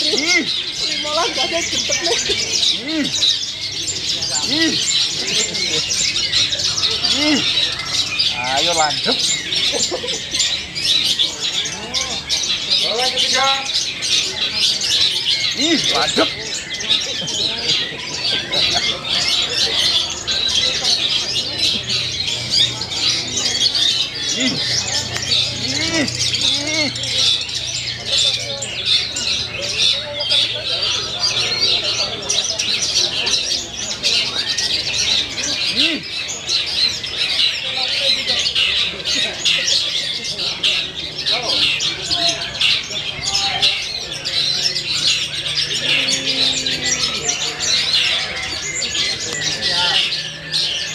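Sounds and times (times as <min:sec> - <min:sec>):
birds chirping and twittering: 0:00.0 - 0:50.9.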